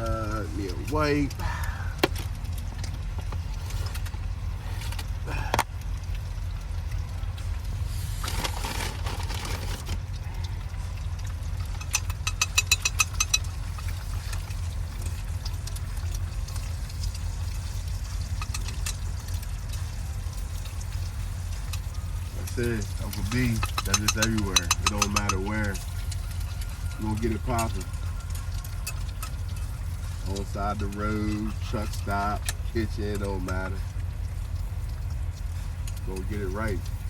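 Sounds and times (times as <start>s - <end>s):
vehicle engines idling: 0.0s - 37.0s.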